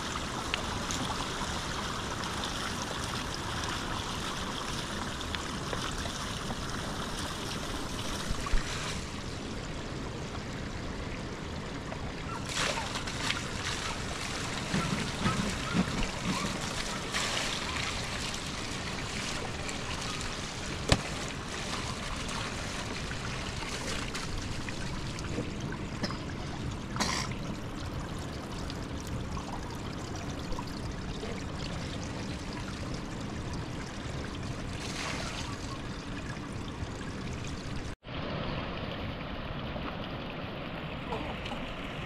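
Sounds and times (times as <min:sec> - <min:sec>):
flowing water: 0:00.0 - 0:42.0.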